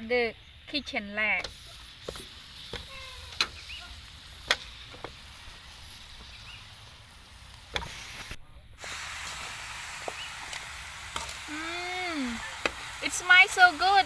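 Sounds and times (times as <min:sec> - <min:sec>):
frying hiss: 0:00.0 - 0:14.0.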